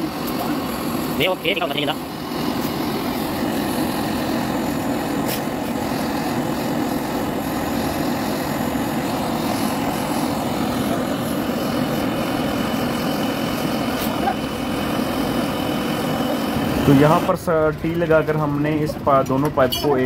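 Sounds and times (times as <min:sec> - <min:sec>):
gas torch burning: 0:00.0 - 0:20.0.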